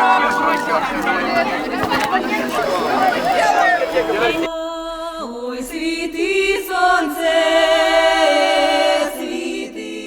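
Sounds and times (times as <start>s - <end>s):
group singing folk song: 0.0s - 10.0s.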